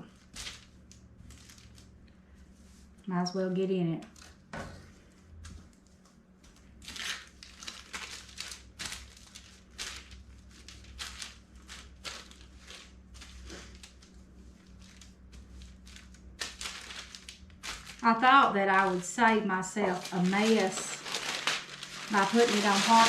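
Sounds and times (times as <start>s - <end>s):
parchment paper crinkling: 0.0s - 2.8s, 5.4s - 23.0s
hands kneading sticky dough: 4.1s - 23.0s.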